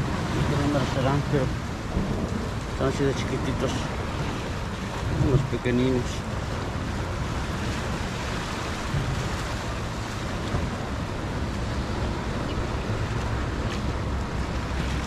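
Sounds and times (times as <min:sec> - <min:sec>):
surf washing against rocks: 0:00.0 - 0:15.0
wind on microphone: 0:00.0 - 0:15.0.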